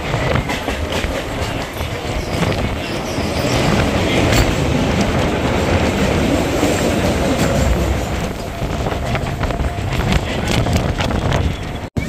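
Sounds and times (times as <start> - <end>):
rail-joint clicks: 0.0 - 11.9
train wheels rumbling on rails: 0.0 - 12.0
wind: 0.0 - 12.0.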